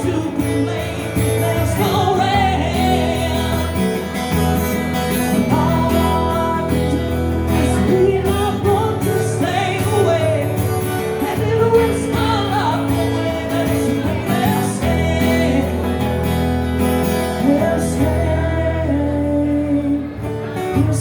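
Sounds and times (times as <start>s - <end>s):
guitars and bass playing: 0.0s - 21.0s.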